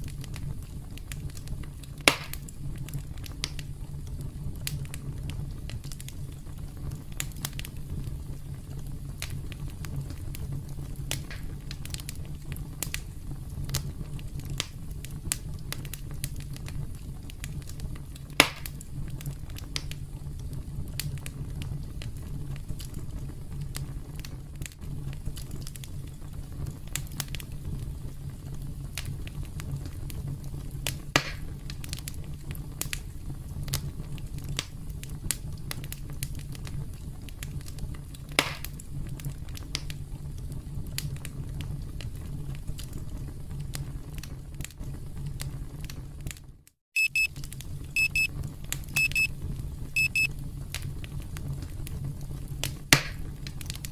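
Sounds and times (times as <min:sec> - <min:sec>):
campfire crackling: 0:00.0 - 0:46.4, 0:47.1 - 0:53.9
loud fire pops: 0:00.0 - 0:46.5, 0:47.3 - 0:53.9.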